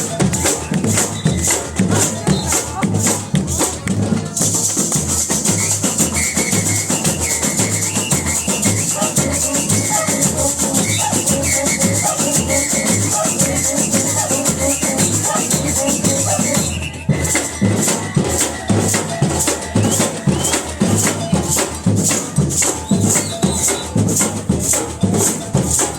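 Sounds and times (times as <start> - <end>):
bass drum beats: 0.0 - 25.9
pitched melodic percussion: 0.0 - 25.9
shakers rattling: 0.0 - 25.9.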